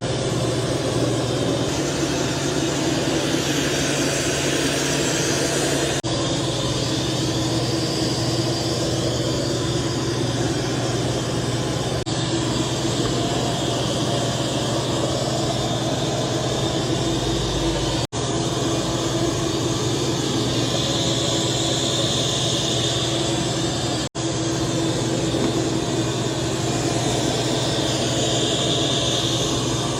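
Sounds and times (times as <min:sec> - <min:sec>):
robot vacuum whirring hum: 0:00.2 - 0:29.9.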